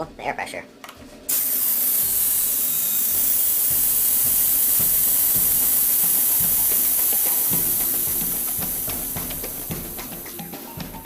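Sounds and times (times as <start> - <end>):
compressed air hissing into valve: 1.3 - 11.0.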